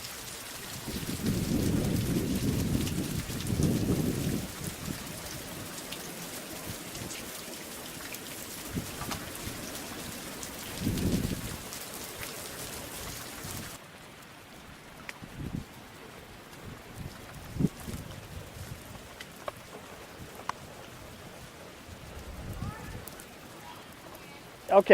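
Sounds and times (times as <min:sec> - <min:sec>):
heavy rain hissing and pattering: 0:00.0 - 0:24.9.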